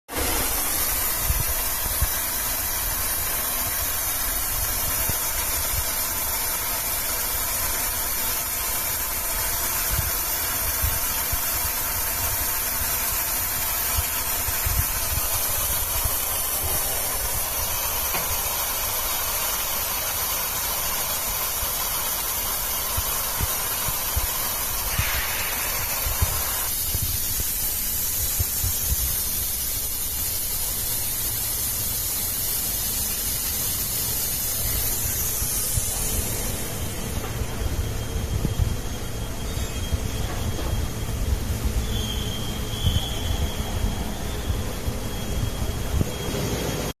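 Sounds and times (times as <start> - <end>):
welding hiss: 0.1 - 47.0.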